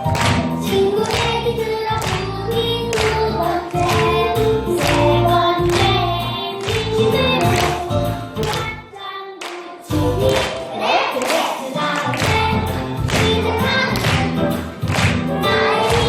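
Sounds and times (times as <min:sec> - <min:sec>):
backing music: 0:00.0 - 0:16.0
children singing: 0:00.6 - 0:14.7, 0:15.3 - 0:16.0.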